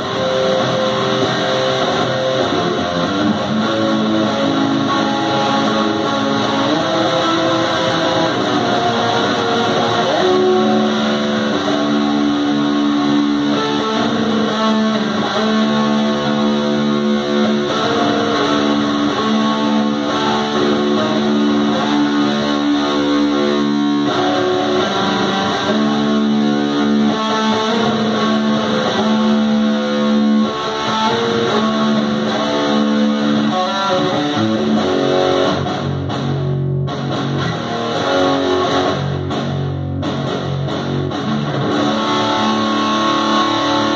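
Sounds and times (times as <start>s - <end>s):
electric guitar playing metal riff: 0.0s - 43.9s.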